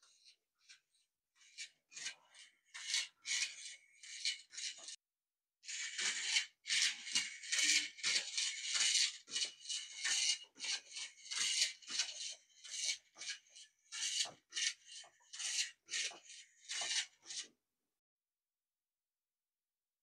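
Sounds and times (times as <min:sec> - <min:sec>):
toy robot legs scraping on wood: 0:00.1 - 0:05.0, 0:05.7 - 0:17.5.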